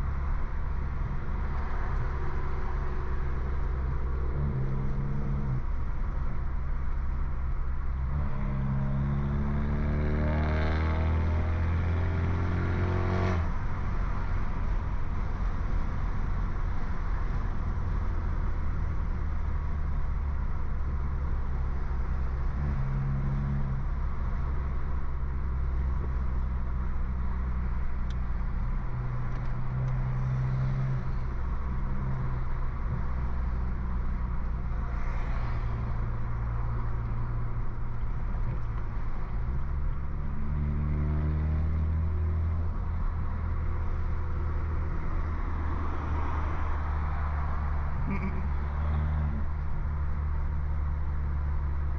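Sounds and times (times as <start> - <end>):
car engine droning: 0.0 - 51.9.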